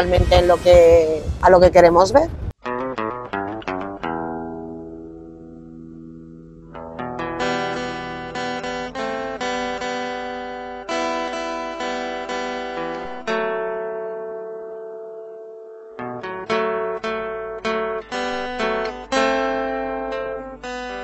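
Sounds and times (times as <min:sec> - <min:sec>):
acoustic guitar strumming chords: 0:02.6 - 0:21.0.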